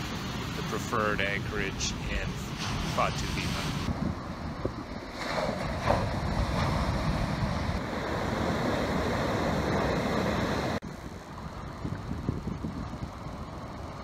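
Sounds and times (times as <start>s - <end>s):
surf breaking on shore: 0.0s - 14.0s.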